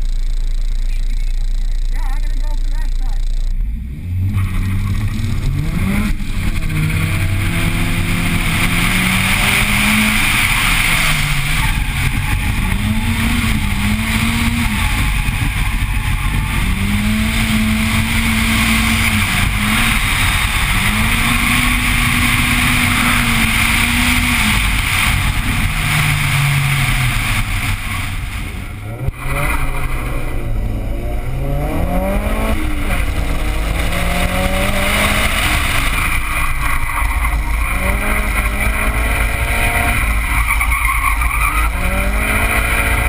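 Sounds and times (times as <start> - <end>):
car engine revving hard: 0.0 - 43.0.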